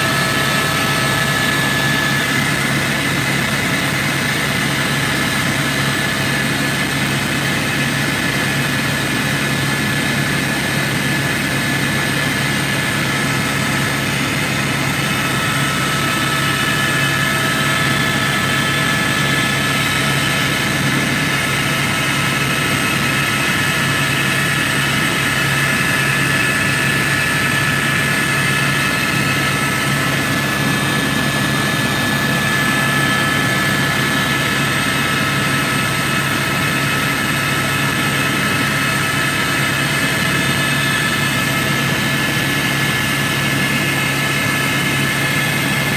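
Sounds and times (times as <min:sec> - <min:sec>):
helicopter engine and rotor drone: 0:00.0 - 0:45.9
high-pitched whine: 0:00.0 - 0:45.9.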